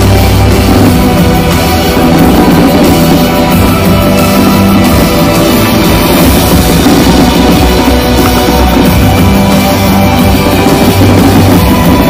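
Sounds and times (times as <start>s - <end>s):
fireworks: 0.0s - 12.0s
loud rock music with drums: 0.0s - 12.0s.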